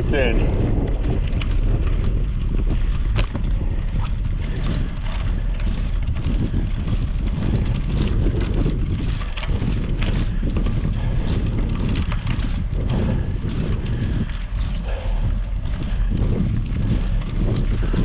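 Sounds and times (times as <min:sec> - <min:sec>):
bicycle clicks and rattles: 0:00.0 - 0:18.0
wind buffeting microphone: 0:00.0 - 0:18.0.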